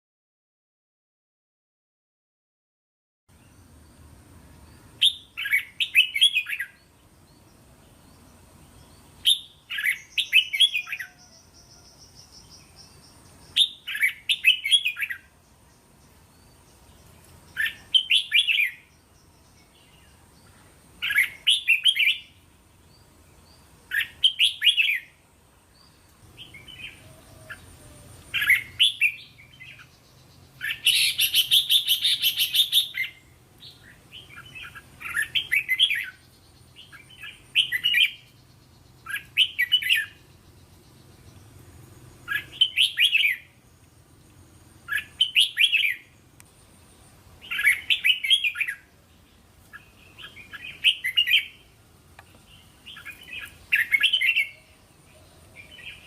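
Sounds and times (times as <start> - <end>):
bird singing warbling phrases: 4.4 - 56.0.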